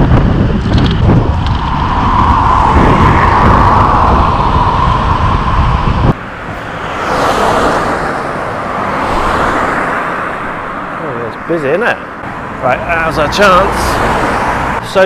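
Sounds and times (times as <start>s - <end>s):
wind rush and rumble: 0.0s - 12.2s
car passing: 0.8s - 15.0s.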